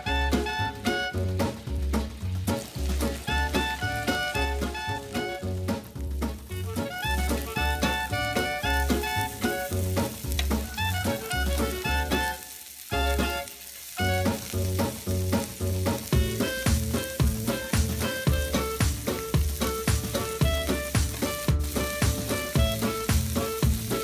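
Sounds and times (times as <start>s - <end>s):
background music with bass beat: 0.0s - 12.4s, 14.0s - 24.0s
shrimp sizzling in oil: 0.0s - 24.0s.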